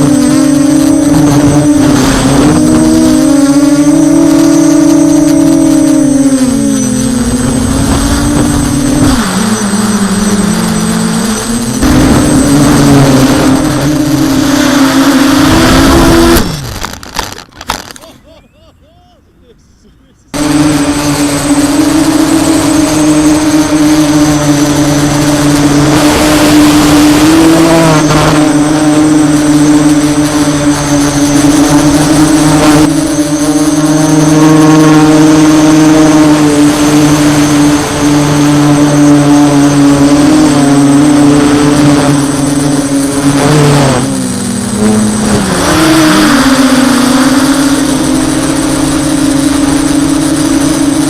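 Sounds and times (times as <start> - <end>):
drone motors buzzing: 0.0 - 18.1, 20.3 - 51.0.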